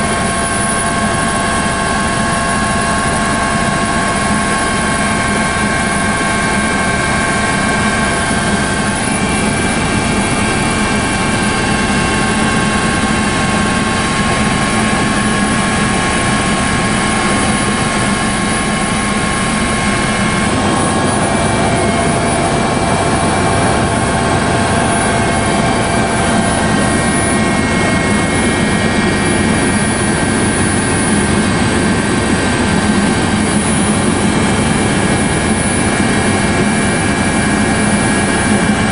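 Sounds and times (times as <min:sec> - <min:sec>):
helicopter engine and rotor drone: 0:00.0 - 0:38.9
high steady whining tones: 0:00.0 - 0:38.9.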